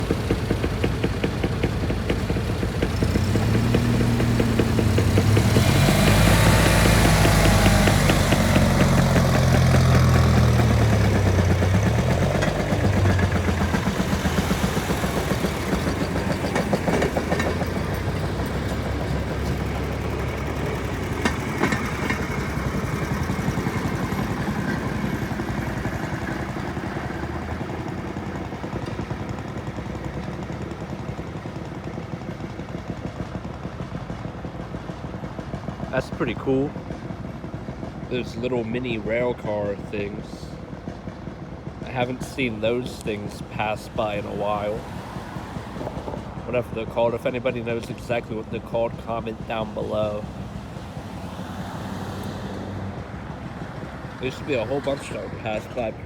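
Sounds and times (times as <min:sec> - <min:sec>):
speeder car engines putting: 0:00.0 - 0:56.0.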